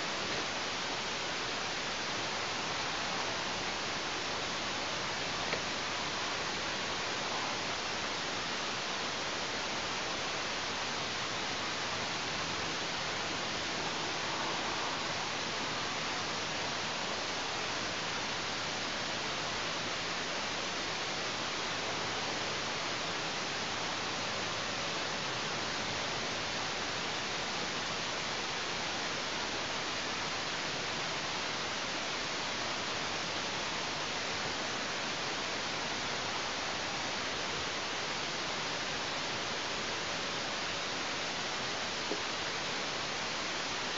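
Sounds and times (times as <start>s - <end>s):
microphone hiss: 0.0s - 43.9s.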